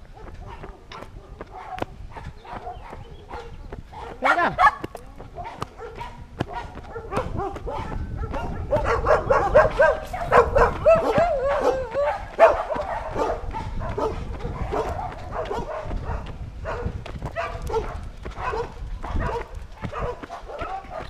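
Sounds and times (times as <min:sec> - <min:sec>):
dog barking and yelping: 0:00.1 - 0:21.0.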